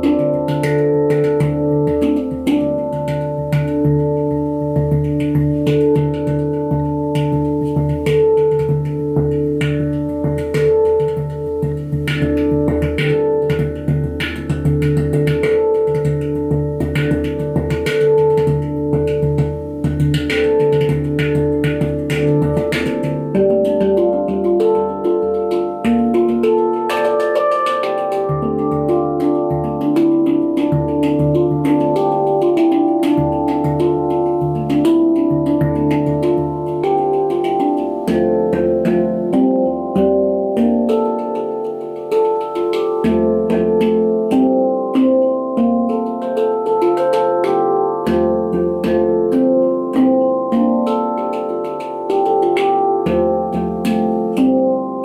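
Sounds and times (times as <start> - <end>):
handpan melody: 0.0 - 55.0
low handpan note: 0.0 - 55.0.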